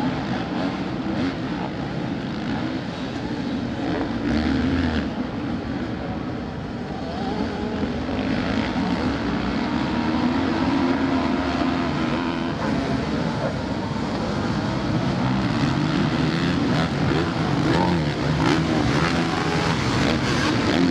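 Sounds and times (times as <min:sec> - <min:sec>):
motocross bikes revving: 0:00.0 - 0:05.9, 0:06.7 - 0:20.9.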